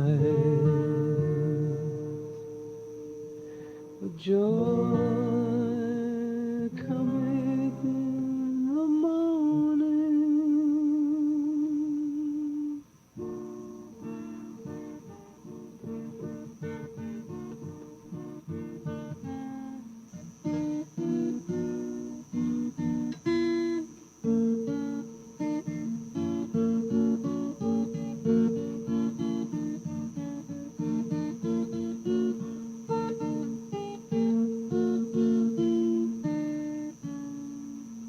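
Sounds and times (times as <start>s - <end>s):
acoustic guitar strumming: 0.0s - 38.0s
faint high-pitched whine: 0.0s - 38.0s.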